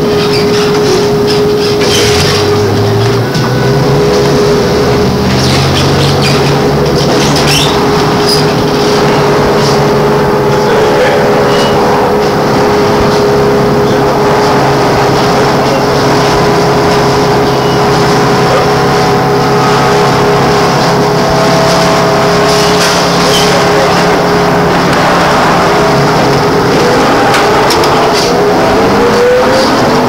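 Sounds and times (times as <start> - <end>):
rising high tone: 0.0 - 30.0
road and cabin noise: 0.0 - 30.0
trolleybus electric whine: 0.0 - 30.0.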